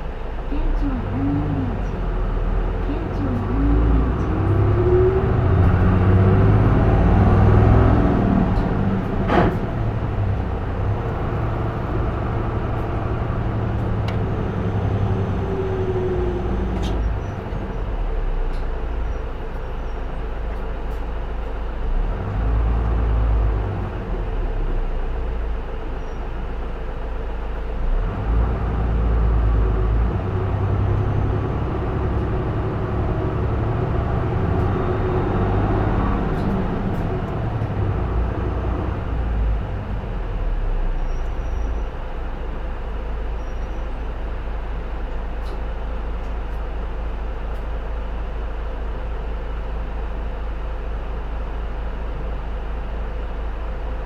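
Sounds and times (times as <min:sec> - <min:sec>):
bus diesel engine from inside: 0:00.0 - 0:54.0.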